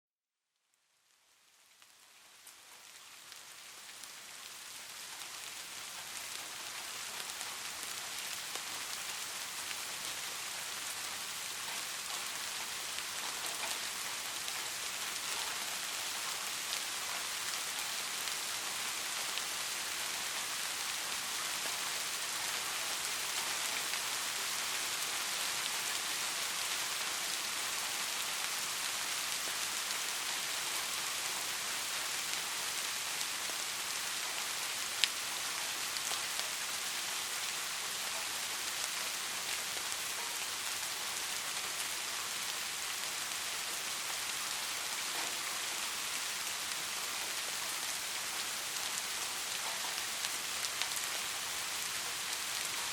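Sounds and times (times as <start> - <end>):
raindrops pattering: 1.1 - 52.9.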